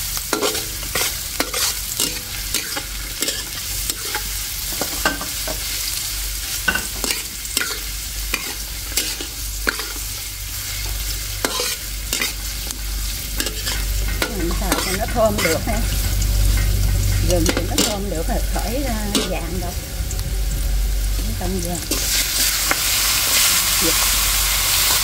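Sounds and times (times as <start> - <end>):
steady sizzle: 0.0 - 25.0
metal spatula scraping wok: 0.2 - 25.0.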